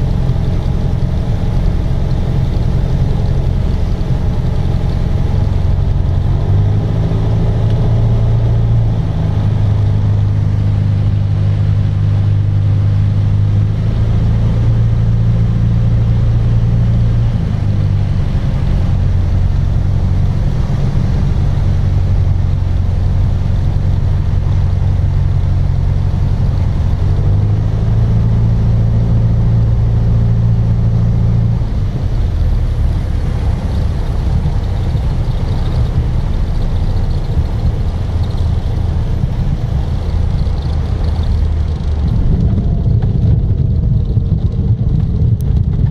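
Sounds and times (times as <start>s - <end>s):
propeller aircraft engine: 0.0s - 45.9s.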